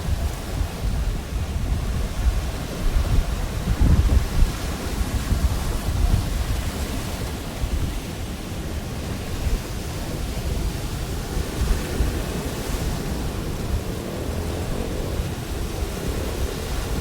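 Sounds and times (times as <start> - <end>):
surf washing onto shore: 0.0 - 17.0
wind buffeting microphone: 0.0 - 17.0.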